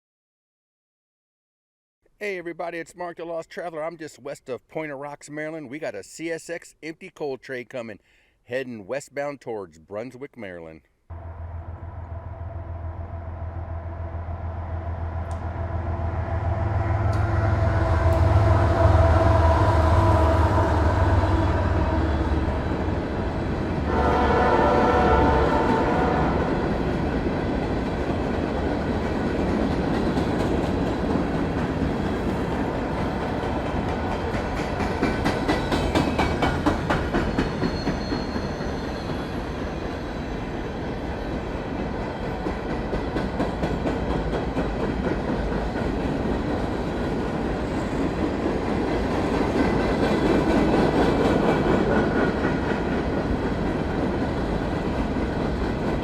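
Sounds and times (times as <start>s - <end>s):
train wheels rumbling on rail: 11.1s - 56.0s.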